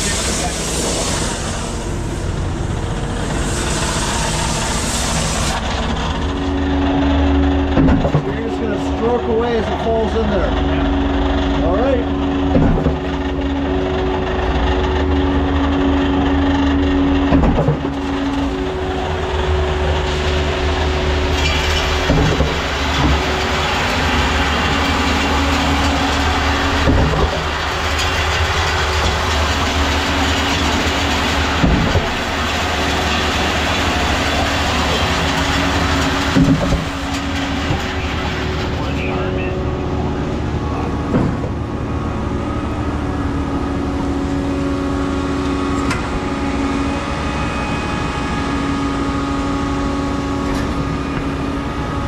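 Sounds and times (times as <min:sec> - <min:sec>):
engine and hydraulics drone: 0:00.0 - 0:52.0
wet concrete pouring and churning: 0:00.0 - 0:52.0.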